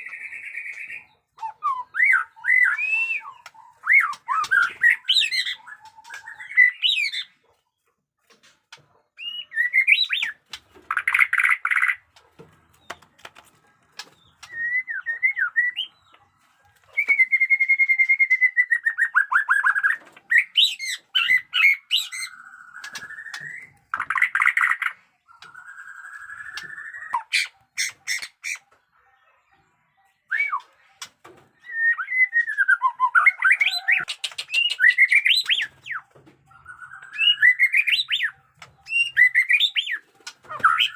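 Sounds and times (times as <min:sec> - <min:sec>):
songbird singing: 0:00.0 - 0:08.0, 0:09.1 - 0:40.9.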